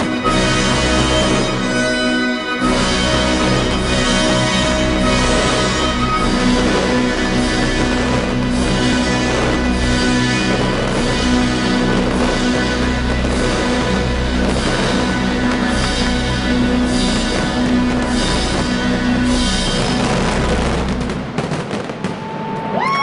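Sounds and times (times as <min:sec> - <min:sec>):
soundtrack music with bass pattern: 0:00.0 - 0:21.4.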